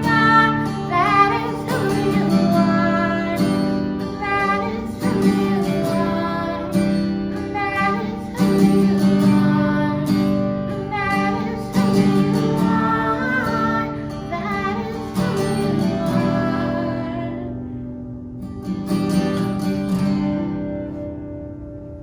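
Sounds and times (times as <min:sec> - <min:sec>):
person singing: 0:00.0 - 0:17.6
acoustic guitar strumming: 0:00.0 - 0:22.0.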